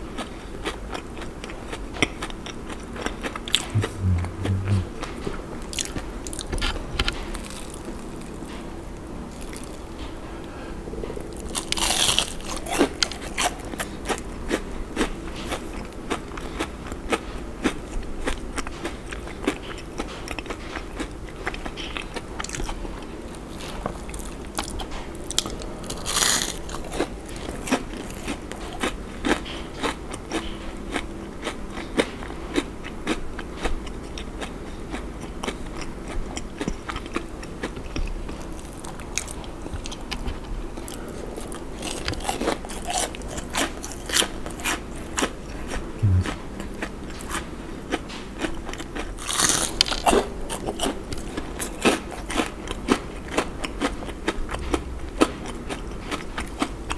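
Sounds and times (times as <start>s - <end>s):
crunchy chewing of fried food: 0.0s - 56.9s.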